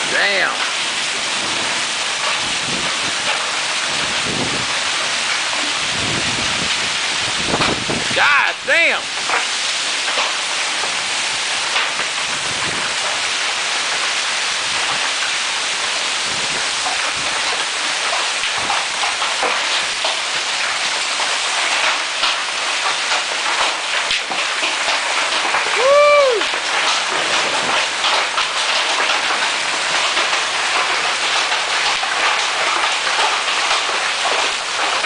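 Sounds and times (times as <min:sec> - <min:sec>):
hail and heavy rain: 0:00.0 - 0:35.0.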